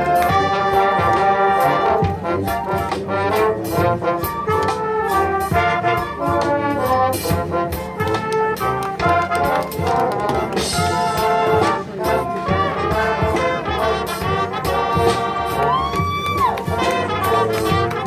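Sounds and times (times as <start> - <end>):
brass section playing: 0.0 - 18.0.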